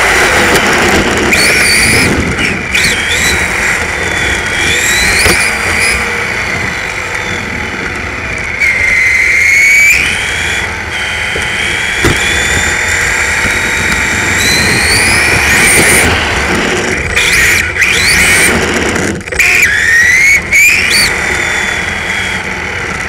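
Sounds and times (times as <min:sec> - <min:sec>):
toy car motor whining: 0:00.0 - 0:23.0
tyre and road noise: 0:00.0 - 0:23.0.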